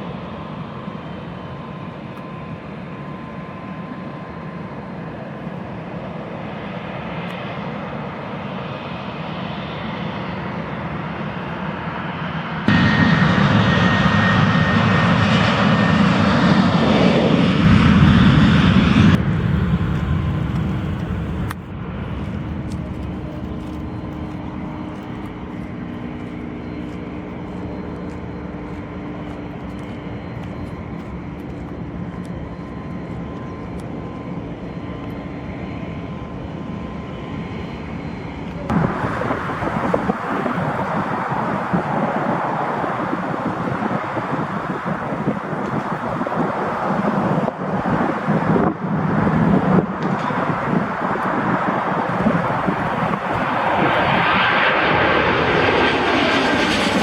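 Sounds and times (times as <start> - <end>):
jet engines passing by: 0.0 - 57.0
steady jet engine whine: 0.0 - 57.0.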